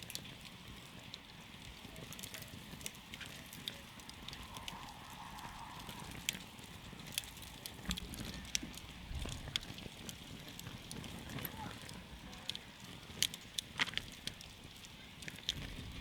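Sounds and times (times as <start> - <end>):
campfire crackling: 0.0 - 16.0
fire pops and snaps: 0.0 - 16.0
low fire rumble: 0.0 - 16.0.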